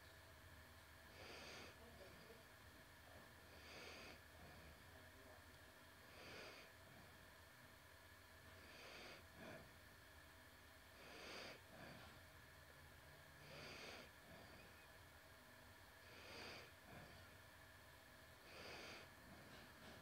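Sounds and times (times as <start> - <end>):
faint slow breathing: 1.0 - 20.0.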